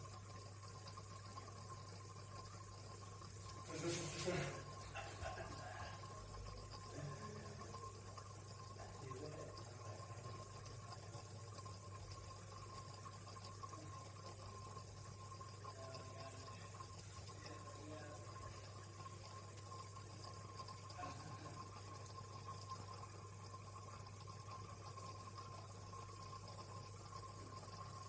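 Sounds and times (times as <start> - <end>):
water trickling: 0.0 - 28.0.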